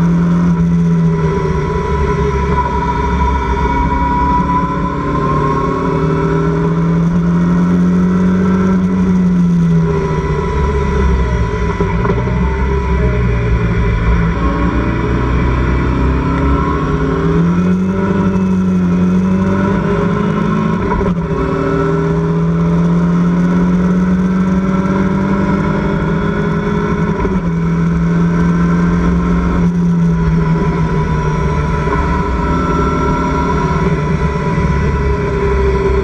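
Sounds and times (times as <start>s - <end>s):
race car engine at high revs: 0.0s - 36.0s.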